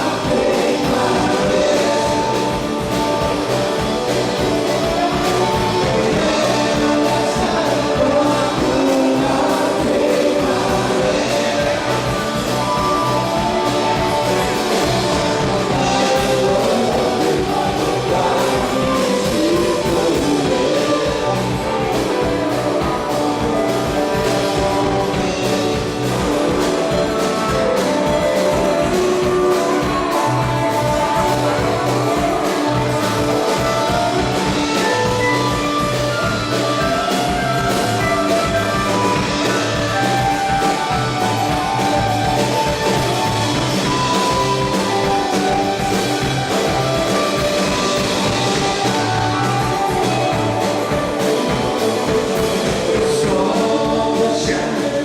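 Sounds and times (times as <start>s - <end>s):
drum kit: 0.0s - 55.0s
electric guitar lines: 0.0s - 55.0s
rock band playing: 0.0s - 55.0s.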